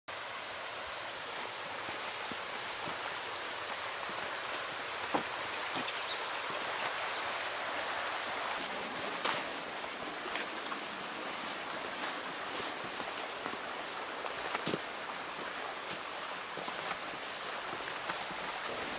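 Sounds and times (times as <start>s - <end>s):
stream water rushing: 0.1s - 18.9s.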